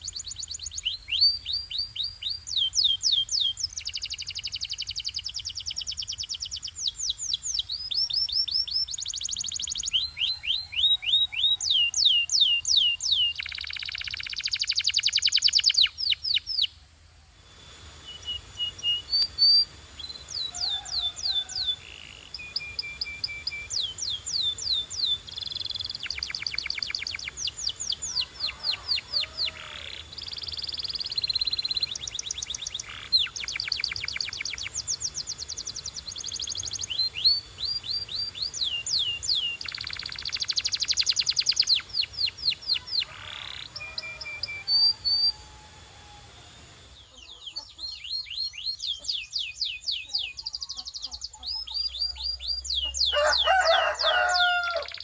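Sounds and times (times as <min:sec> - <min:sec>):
canary singing: 0:00.0 - 0:16.8, 0:17.6 - 0:55.0.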